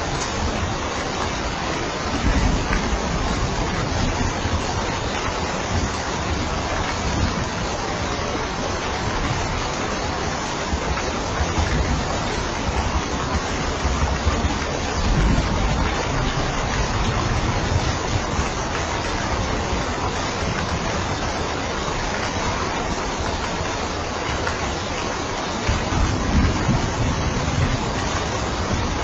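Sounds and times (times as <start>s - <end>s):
heavy rain on a roof: 0.0s - 29.0s.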